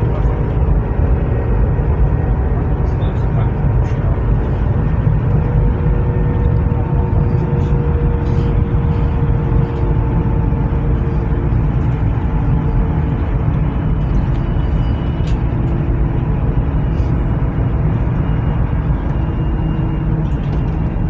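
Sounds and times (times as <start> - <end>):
tram rumble: 0.0 - 21.0.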